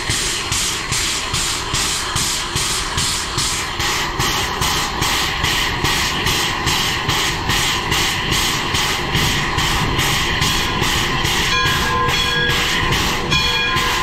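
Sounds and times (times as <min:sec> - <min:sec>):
rumble of running train: 0:00.0 - 0:14.0
steam locomotive chuffing: 0:00.0 - 0:14.0.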